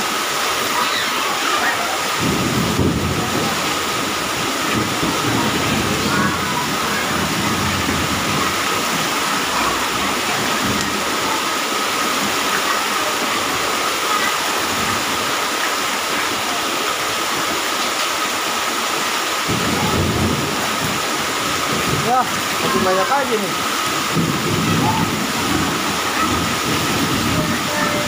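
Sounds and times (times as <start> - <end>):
heavy rain pouring: 0.0 - 28.0
water splashing on tiles: 0.0 - 28.0.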